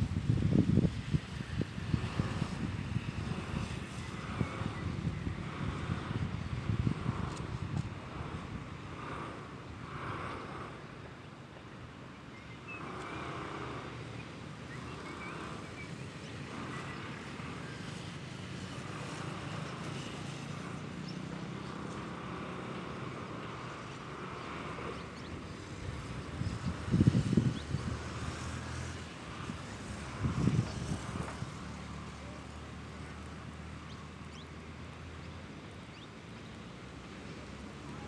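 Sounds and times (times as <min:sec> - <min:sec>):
wind rumble on microphone: 0:00.0 - 0:38.0.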